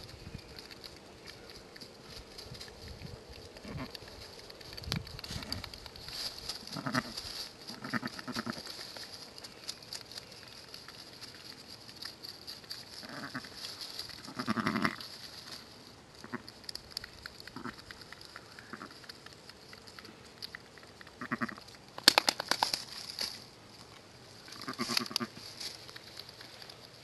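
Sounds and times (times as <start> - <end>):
rustling dry leaves: 0.0 - 27.0.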